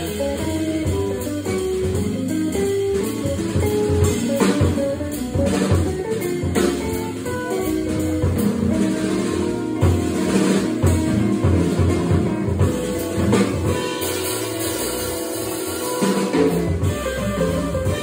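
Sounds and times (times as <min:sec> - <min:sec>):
electric guitar melody: 0:00.0 - 0:18.0
steady drumming: 0:00.0 - 0:18.0.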